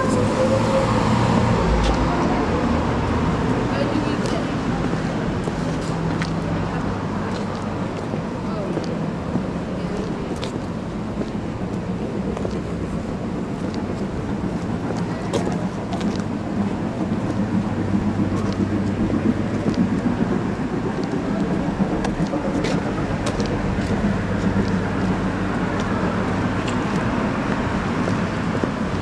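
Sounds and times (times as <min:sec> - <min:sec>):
low engine hum: 0:00.0 - 0:29.0
rushing noise: 0:00.0 - 0:29.0.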